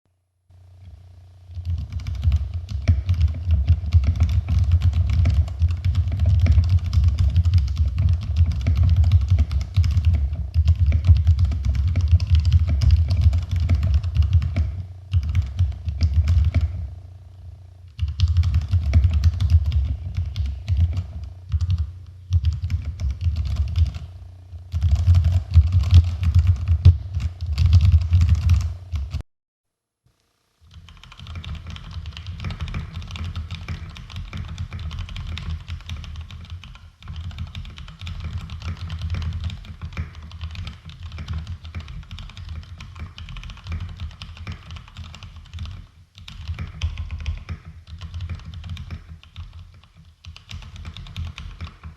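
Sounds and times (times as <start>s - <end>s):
mechanical keyboard typing: 1.5s - 16.9s, 17.9s - 24.1s, 24.7s - 29.2s, 30.6s - 51.9s.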